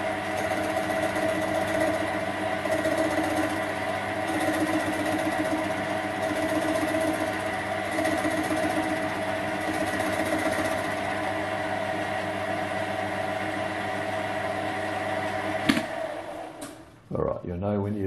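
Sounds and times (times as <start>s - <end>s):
metal lathe running: 0.0s - 16.8s.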